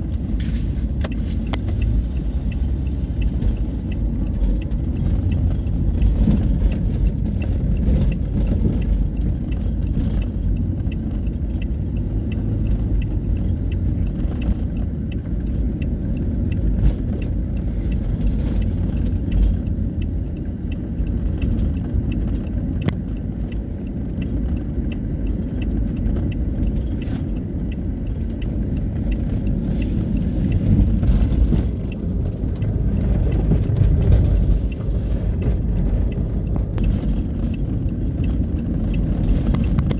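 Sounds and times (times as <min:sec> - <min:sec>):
heavy trucks rumbling on highway: 0:00.0 - 0:39.9
faint regular ticking: 0:00.1 - 0:39.9.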